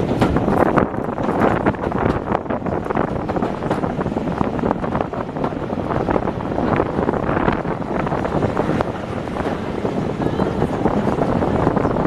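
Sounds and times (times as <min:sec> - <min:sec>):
train running on track: 0:00.0 - 0:12.0
wind buffeting microphone: 0:00.0 - 0:12.0.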